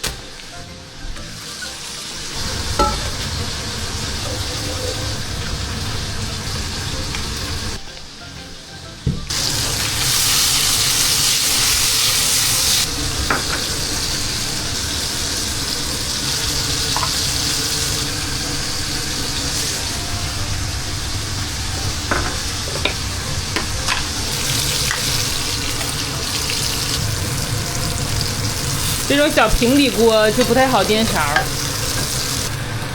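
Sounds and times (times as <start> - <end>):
food sizzling in a pan: 1.2 - 32.9.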